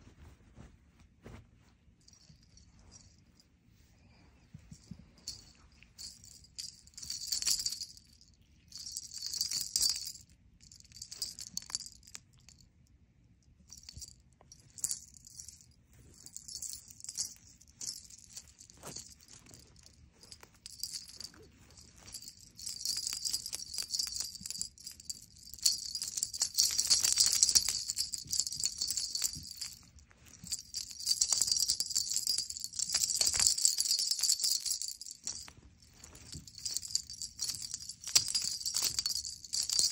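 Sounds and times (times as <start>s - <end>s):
cat toy jingling: 4.7s - 12.2s, 13.7s - 39.9s.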